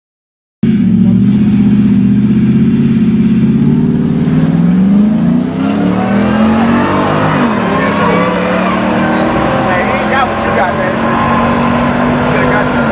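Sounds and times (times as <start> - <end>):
engines revving: 0.6 - 12.9.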